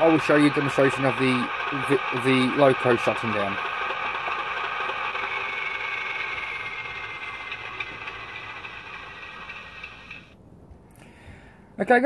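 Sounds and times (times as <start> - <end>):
model diesel engine sound from speaker: 0.0 - 10.4.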